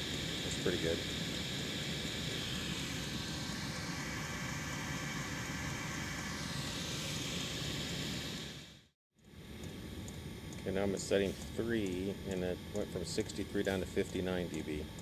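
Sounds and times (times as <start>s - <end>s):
air heater fan whooshing: 0.0s - 15.0s.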